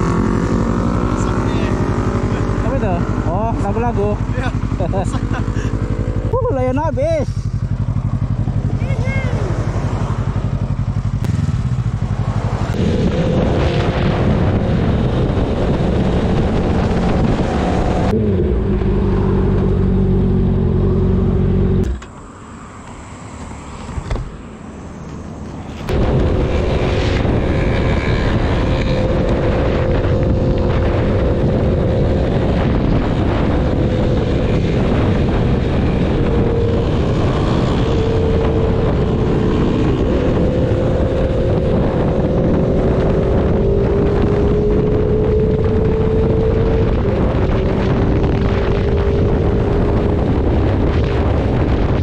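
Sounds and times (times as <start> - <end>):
motorcycle engine running: 0.0 - 22.0, 24.3 - 52.0
wind noise on microphone: 0.0 - 22.1, 25.2 - 52.0.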